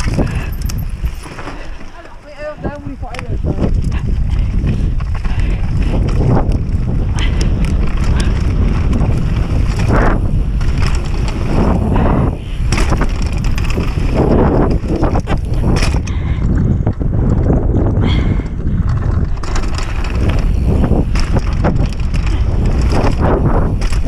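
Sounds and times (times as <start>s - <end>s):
bike rattling and knocking: 0.0s - 24.0s
tyres rumbling on gravel: 0.0s - 24.0s
wind buffeting microphone: 0.0s - 24.0s.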